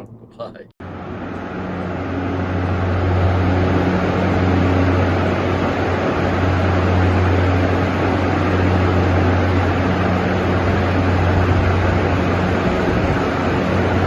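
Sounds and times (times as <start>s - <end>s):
fans blowing air: 0.0s - 14.0s
low machinery hum: 0.0s - 14.0s.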